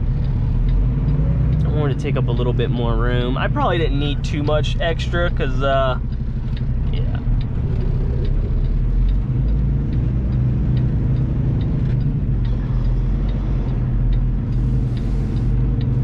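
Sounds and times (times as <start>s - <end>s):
diesel truck engine running: 0.0s - 16.0s
light regular ticking: 0.0s - 16.0s.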